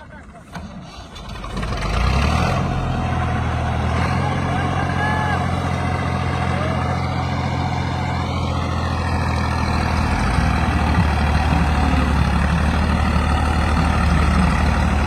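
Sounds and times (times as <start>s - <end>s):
tractor engine running hard: 0.0s - 15.0s.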